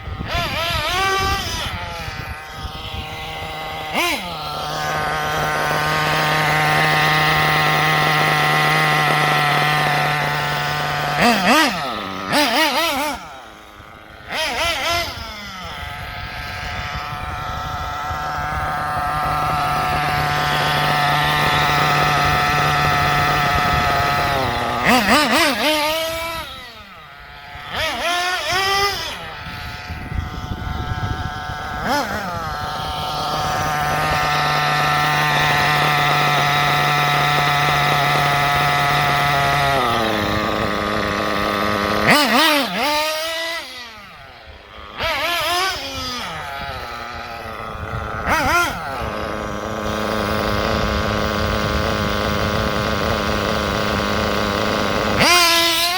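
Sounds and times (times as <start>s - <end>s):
small nitro engine revving: 0.0s - 55.9s.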